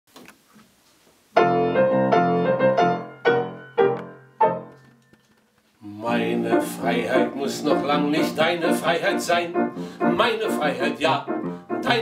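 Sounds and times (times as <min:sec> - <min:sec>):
piano chords ringing: 0:01.4 - 0:12.0.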